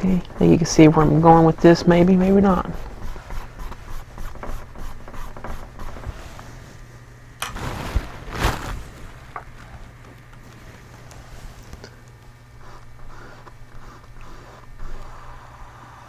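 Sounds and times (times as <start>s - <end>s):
paintbrush rubbing on canvas: 0.0s - 6.9s, 7.5s - 11.8s, 12.5s - 16.0s
low steady hum: 0.0s - 16.0s.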